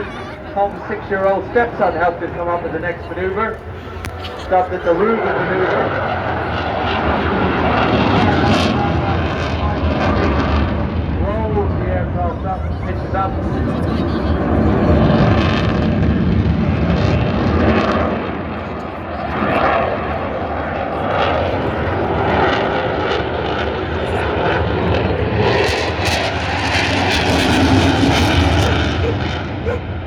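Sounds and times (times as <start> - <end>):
fighter jet roaring: 0.0 - 18.2, 21.1 - 30.0.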